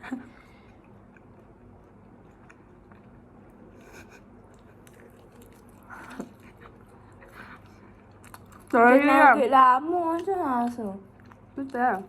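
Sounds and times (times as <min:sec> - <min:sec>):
faint chewing and crunching: 0:00.0 - 0:12.0
low steady background hum: 0:00.0 - 0:12.0.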